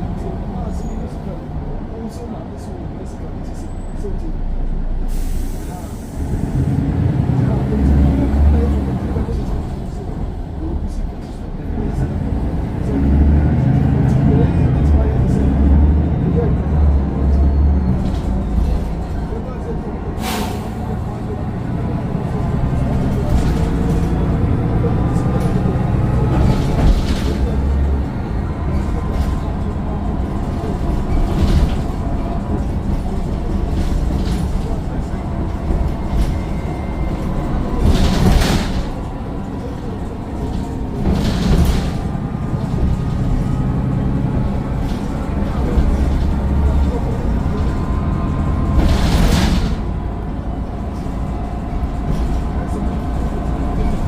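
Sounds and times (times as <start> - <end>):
bus diesel engine rumbling: 0.0 - 54.0.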